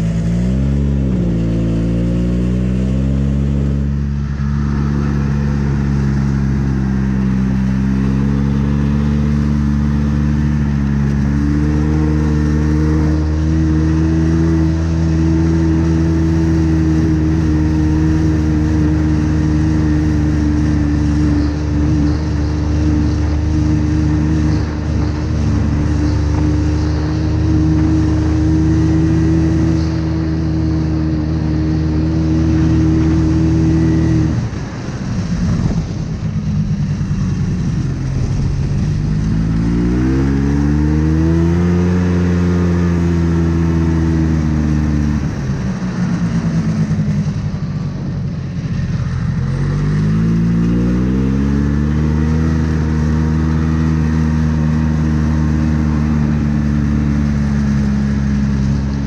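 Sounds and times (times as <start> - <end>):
snowmobile two-stroke engine: 0.0 - 59.0.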